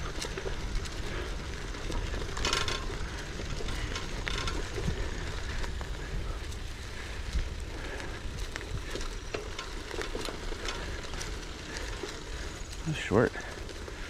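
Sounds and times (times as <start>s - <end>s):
bicycle freewheel ticking: 0.0s - 14.0s
bike tyres crackling on dirt: 0.0s - 14.0s.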